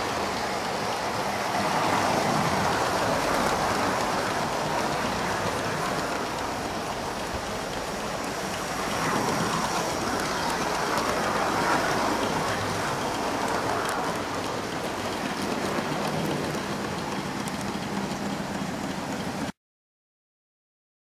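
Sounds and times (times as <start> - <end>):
model trains whirring on rails: 0.0 - 19.6.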